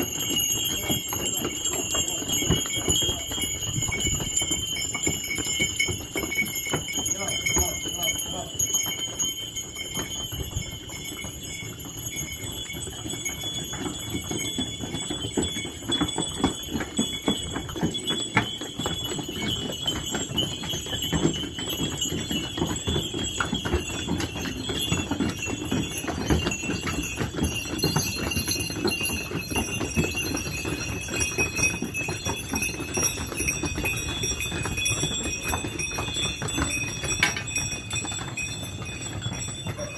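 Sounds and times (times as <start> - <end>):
bells jingling: 0.0 - 39.9
donkey hooves clip-clopping on stone: 0.0 - 39.9.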